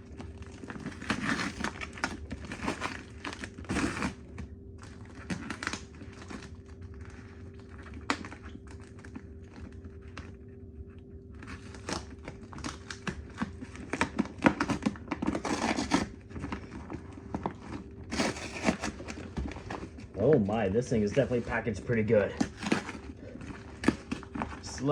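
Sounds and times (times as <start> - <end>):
packing material crinkling: 0.0 - 24.9
cardboard and tape tearing: 0.1 - 9.0, 11.4 - 24.9.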